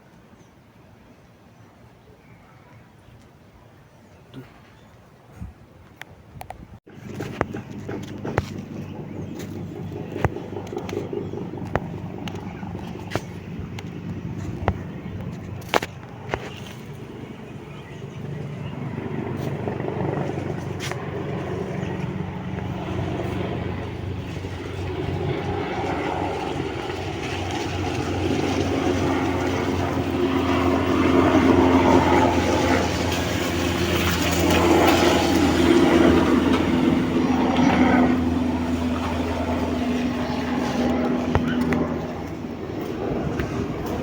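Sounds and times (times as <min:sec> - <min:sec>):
aircraft engine noise: 0:05.9 - 0:44.0.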